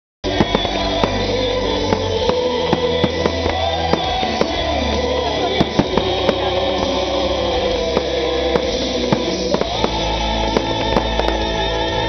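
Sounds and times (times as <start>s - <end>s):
fireworks bangs and crackles: 0.2s - 12.0s
loud music with held notes: 0.2s - 12.0s.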